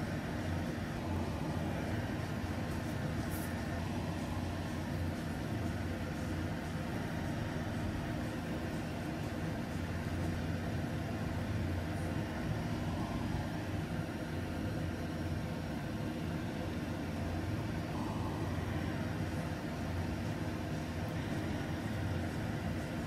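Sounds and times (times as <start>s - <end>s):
low hum and rumble: 0.0s - 23.0s.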